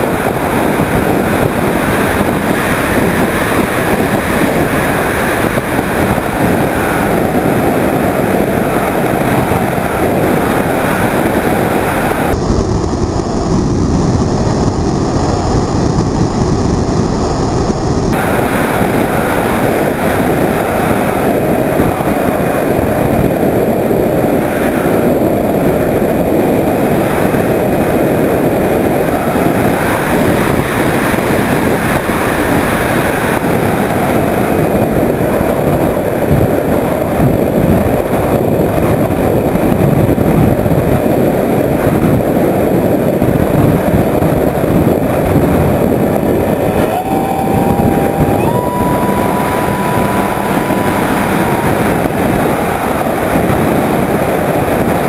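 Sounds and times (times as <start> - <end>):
airflow rushing over camera: 0.0 - 55.0
electric motor and propeller: 0.0 - 55.0.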